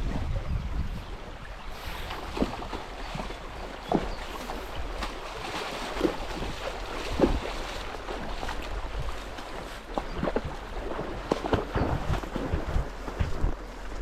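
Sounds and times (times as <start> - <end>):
wind noise on microphone: 0.0 - 5.1, 6.0 - 14.0
water sloshing: 1.5 - 14.0
loud splashes: 2.1 - 13.4.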